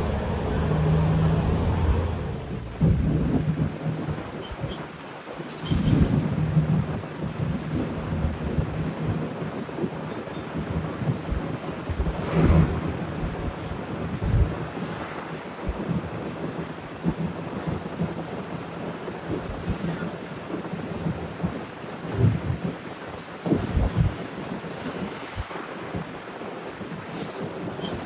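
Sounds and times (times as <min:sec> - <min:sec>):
wind on microphone: 0:00.0 - 0:05.0, 0:05.6 - 0:28.0
bus engine and road rumble: 0:00.0 - 0:25.4.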